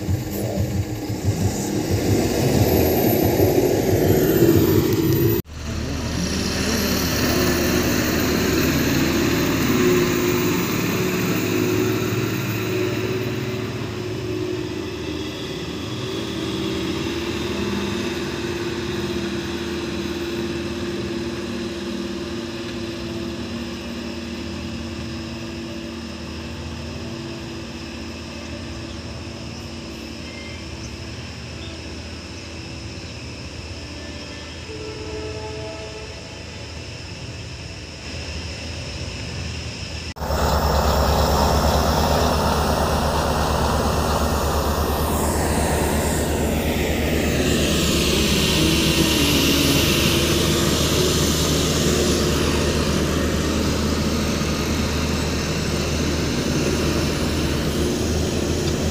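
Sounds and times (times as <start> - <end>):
truck diesel engine driving off: 0.0 - 30.0, 40.1 - 58.9.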